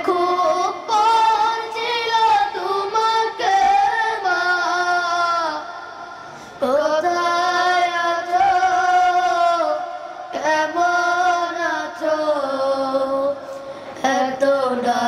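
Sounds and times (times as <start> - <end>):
boys singing: 0.0 - 5.8, 6.6 - 15.0.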